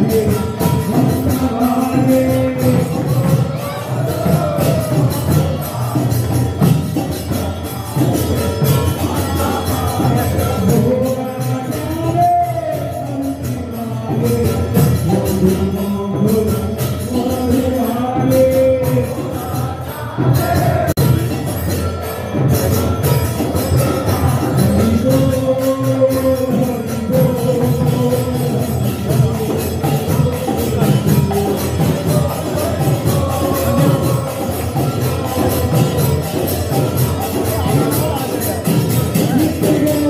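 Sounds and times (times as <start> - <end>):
jingling metal percussion: 0.0 - 40.0
voices singing a chant: 0.0 - 40.0.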